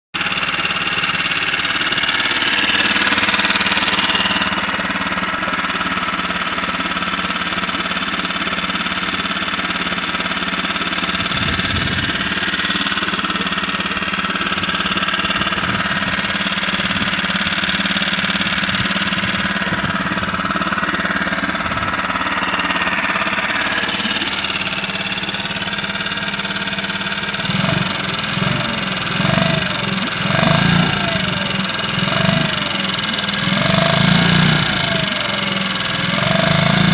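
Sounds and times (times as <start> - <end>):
outboard motor running: 0.2 - 36.9.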